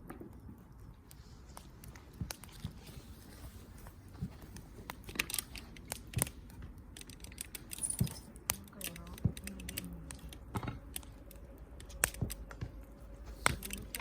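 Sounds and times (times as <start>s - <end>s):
low rumble of burning fire: 0.0s - 14.0s
wood fire crackling: 0.0s - 14.0s.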